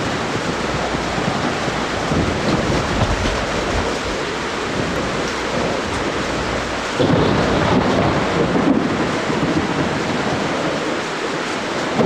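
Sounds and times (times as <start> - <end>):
heavy rain: 0.0 - 12.0
thunder rumbling: 0.0 - 12.0
wind: 0.0 - 12.0.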